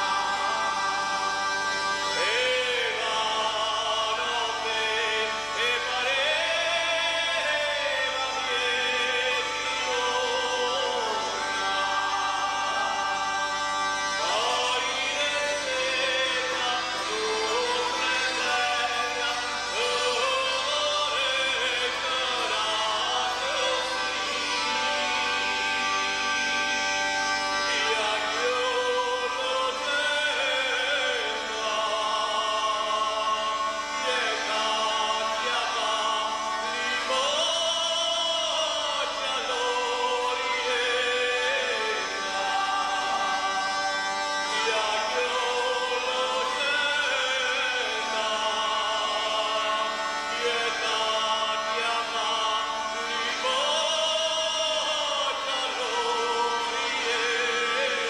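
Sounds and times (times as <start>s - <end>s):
man singing: 0.0s - 25.8s, 27.2s - 58.0s
bagpipe drone: 0.0s - 58.0s.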